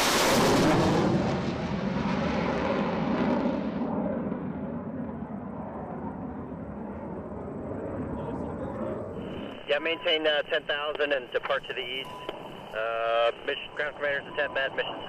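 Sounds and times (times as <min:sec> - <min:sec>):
jet low rumble: 0:00.0 - 0:15.0.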